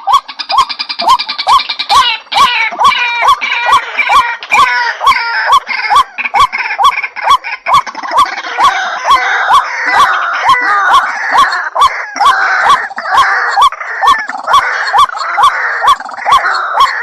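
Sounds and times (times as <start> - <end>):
harsh bird chattering: 0.0 - 17.0.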